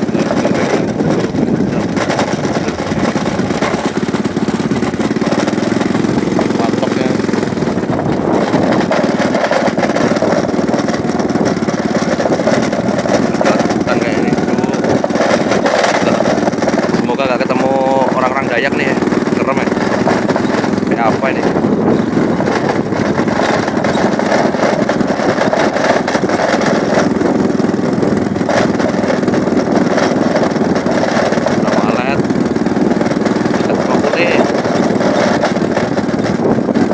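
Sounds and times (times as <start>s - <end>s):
small motorcycle engine running: 0.0s - 36.9s
wind and road noise: 0.0s - 36.9s.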